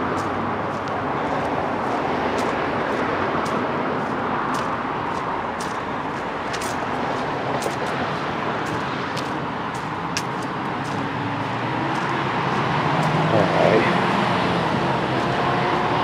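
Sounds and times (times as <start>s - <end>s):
footsteps crunching on dirt: 0.0s - 16.0s
road traffic roar: 0.0s - 16.0s.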